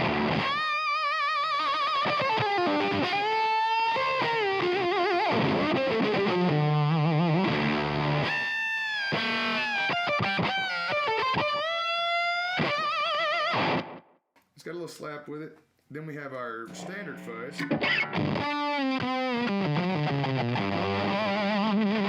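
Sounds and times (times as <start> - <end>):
fuzz electric guitar lead: 0.0 - 14.0, 16.7 - 22.0.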